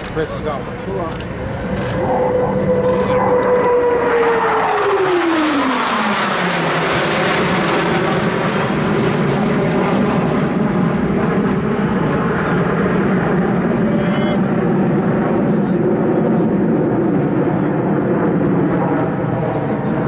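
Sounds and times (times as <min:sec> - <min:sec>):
jet flying past: 0:00.0 - 0:20.0.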